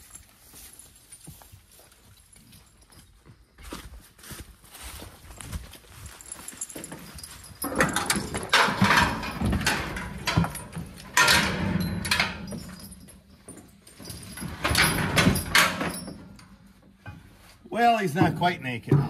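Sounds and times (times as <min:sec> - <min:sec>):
harness buckles clinking: 0:00.0 - 0:04.0, 0:04.9 - 0:18.6.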